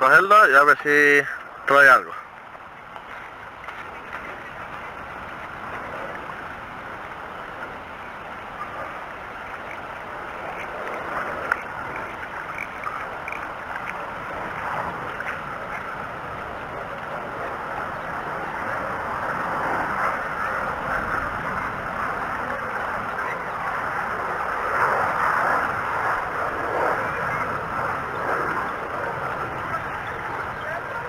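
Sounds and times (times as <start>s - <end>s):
water at shoreline: 0.0s - 31.0s
wind: 0.0s - 31.0s.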